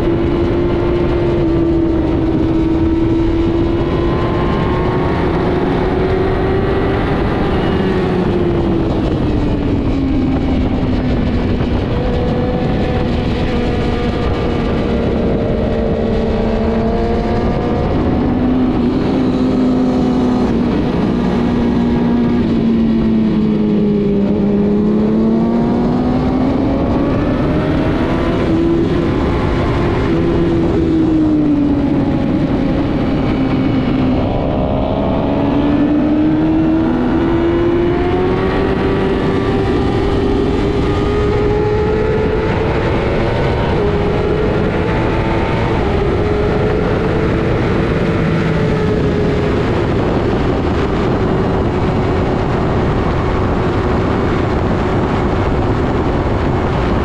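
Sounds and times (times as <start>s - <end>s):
constant rumble: 0.0s - 57.0s
racing motorcycle engine: 0.0s - 57.0s.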